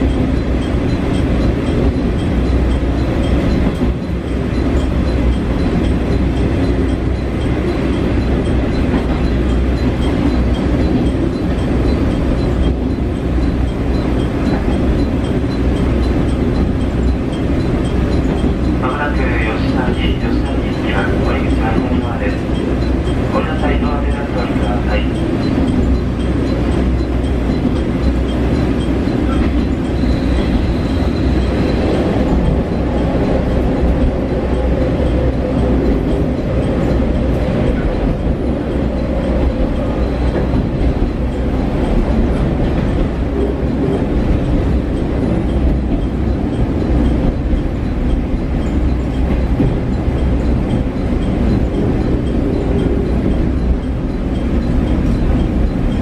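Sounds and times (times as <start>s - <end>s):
train engine and wheels rumbling: 0.0s - 56.0s
wheels clickety-clack: 0.0s - 56.0s.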